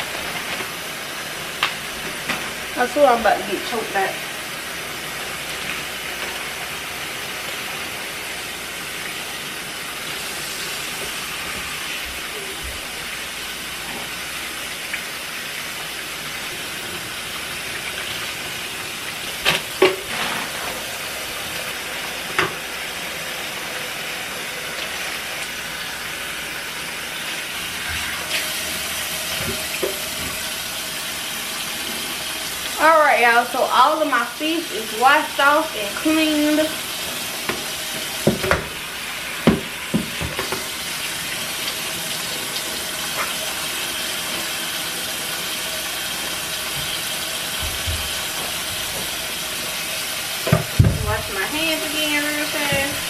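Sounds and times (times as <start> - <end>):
faucet running into steel sink: 0.0 - 53.0.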